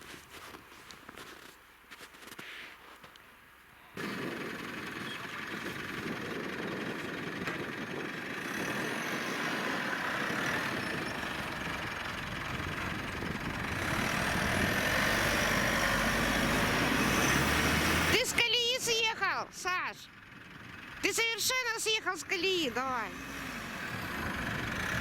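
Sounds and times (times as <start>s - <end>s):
engine running under load: 4.0s - 25.0s.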